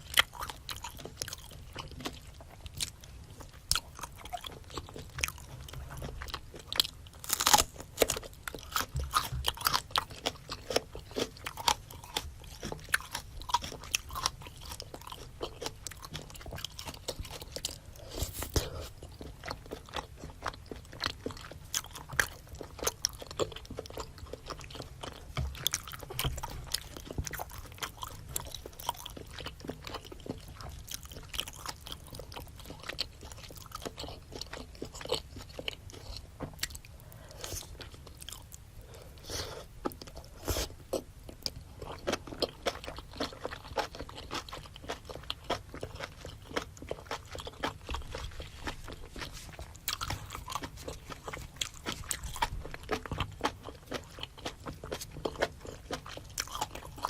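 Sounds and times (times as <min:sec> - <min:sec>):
wet chewing and crunching: 0:00.0 - 0:57.0.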